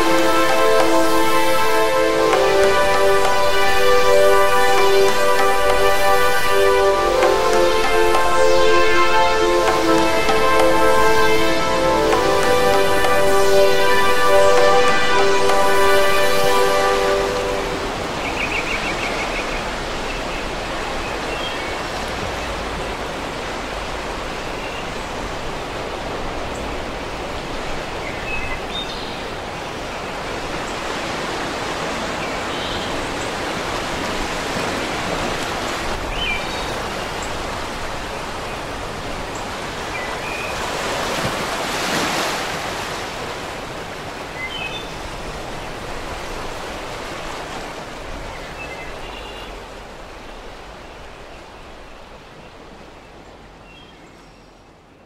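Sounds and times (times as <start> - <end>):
tape hiss: 0.0 - 53.8.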